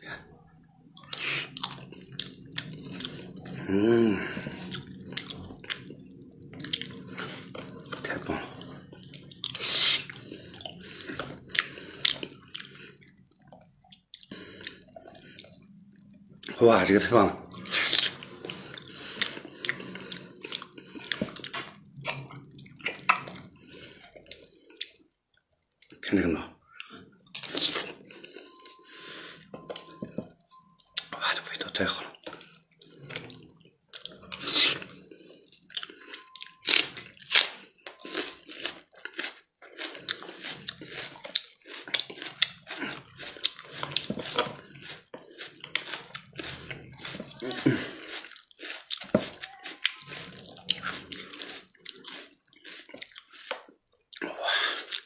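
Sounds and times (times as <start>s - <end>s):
wet chewing and lip-smacking: 1.0s - 3.6s, 4.3s - 16.6s, 17.5s - 25.2s, 26.7s - 55.0s.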